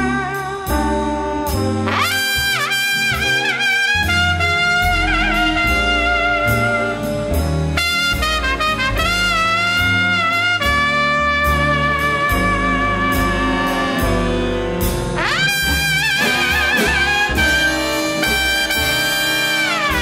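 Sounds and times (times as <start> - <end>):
brass and saxophone held notes: 0.0 - 20.0
steady cymbal beat: 0.0 - 20.0
walking bass line: 0.0 - 20.0.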